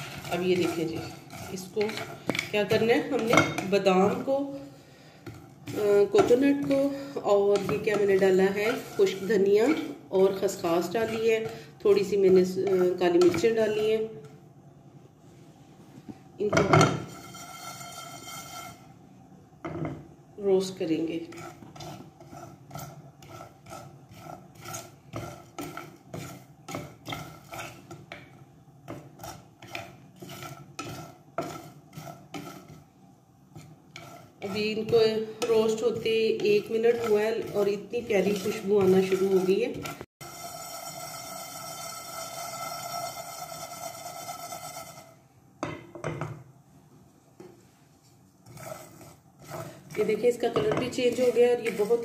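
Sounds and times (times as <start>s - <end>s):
wooden spatula scraping a pan: 0.0s - 14.4s, 15.2s - 18.9s, 19.7s - 45.2s, 47.4s - 52.0s.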